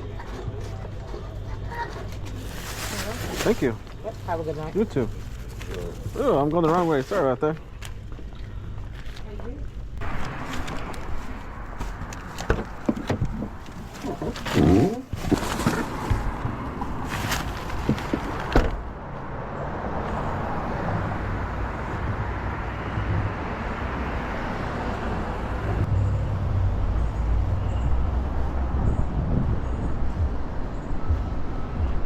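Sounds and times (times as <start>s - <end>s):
car engine and tyre noise: 4.6s - 32.0s.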